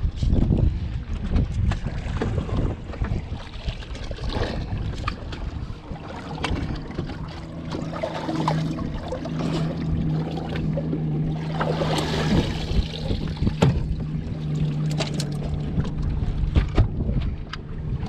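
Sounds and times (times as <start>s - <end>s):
outboard motor humming: 0.0s - 18.0s
water sloshing against hull: 0.0s - 18.0s.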